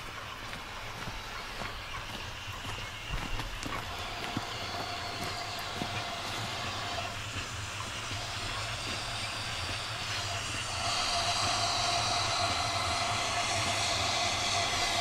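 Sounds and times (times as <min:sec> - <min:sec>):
hiss of steam: 0:00.0 - 0:15.0
running tone: 0:00.0 - 0:15.0
steam locomotive approaching: 0:00.0 - 0:15.0.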